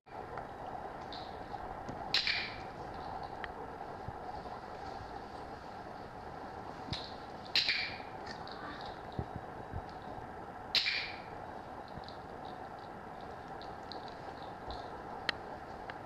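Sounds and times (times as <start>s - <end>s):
steady low hum: 0.1s - 16.0s.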